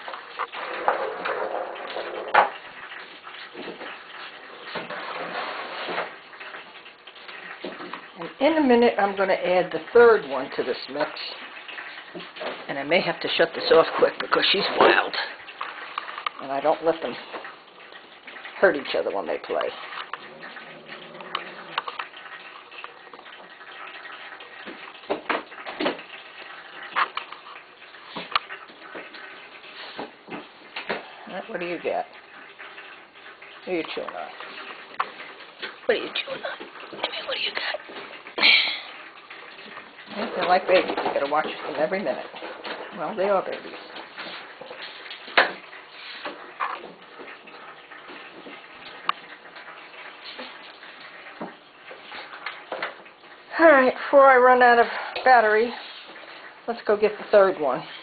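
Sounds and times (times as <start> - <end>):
water fountain trickling and gurgling: 0.0 - 58.0.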